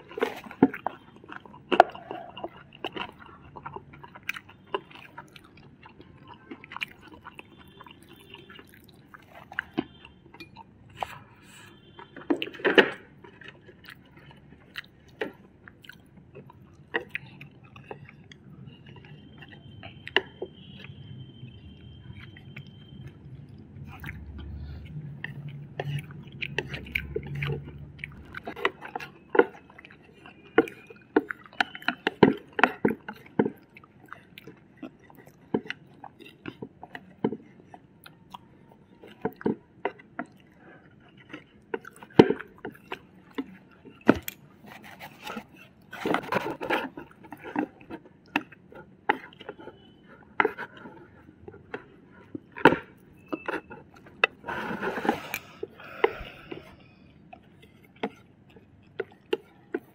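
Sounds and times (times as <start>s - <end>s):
chewing and biting: 0.0s - 59.9s.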